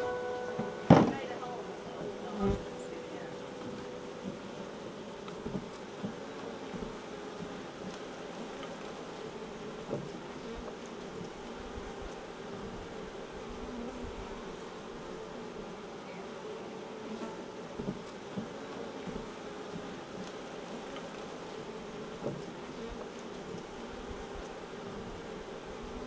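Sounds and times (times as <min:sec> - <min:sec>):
bees humming: 0:00.0 - 0:26.0.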